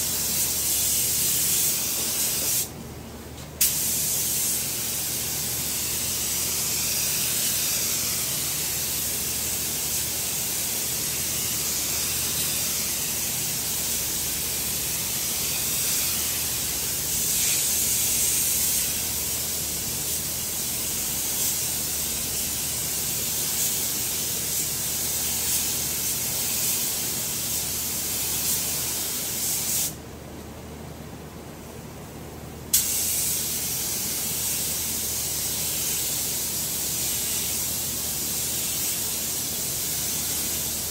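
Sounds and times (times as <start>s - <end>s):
paint spray gun hissing: 0.1s - 2.7s, 3.6s - 20.6s, 21.2s - 30.0s, 32.8s - 40.9s.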